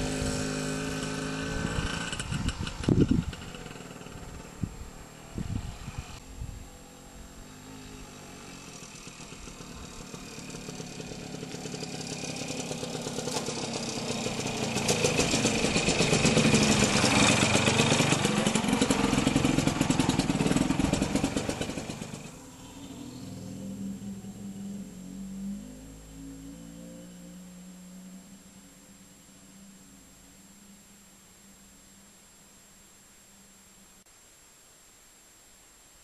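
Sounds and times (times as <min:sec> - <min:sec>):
two-stroke motorcycle passing: 0:00.0 - 0:30.8.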